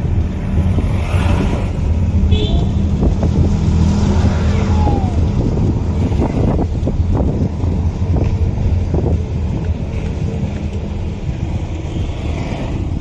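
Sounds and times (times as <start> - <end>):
vehicle engine and road rumble: 0.0 - 13.0
wind buffeting microphone: 0.0 - 13.0.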